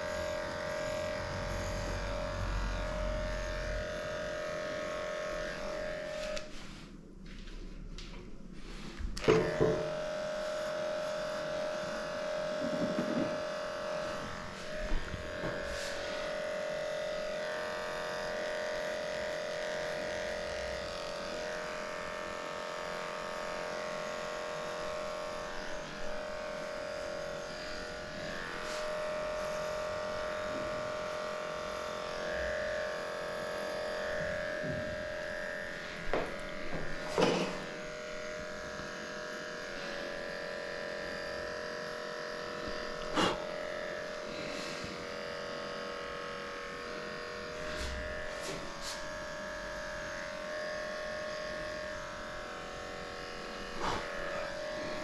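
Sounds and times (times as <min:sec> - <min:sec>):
electric clippers buzzing: 0:00.0 - 0:06.7, 0:09.1 - 0:55.0.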